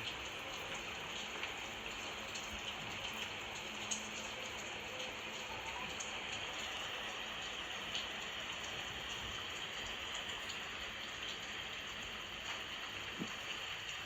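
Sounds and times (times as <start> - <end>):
raindrop ticks: 0.0 - 14.0
steady rain falling: 0.0 - 14.0.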